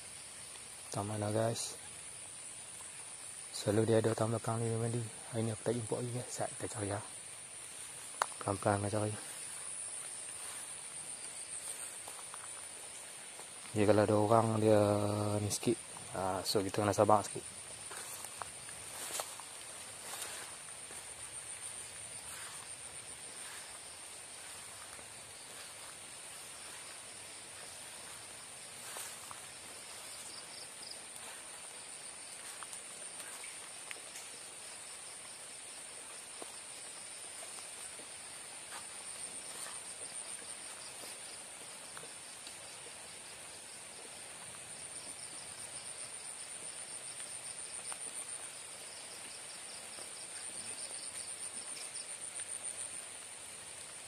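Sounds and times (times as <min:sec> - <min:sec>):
faint ticks and rustles: 0:00.0 - 0:54.0
high-pitched insect trill: 0:00.0 - 0:54.0
lower pulsing insect trill: 0:00.0 - 0:54.0.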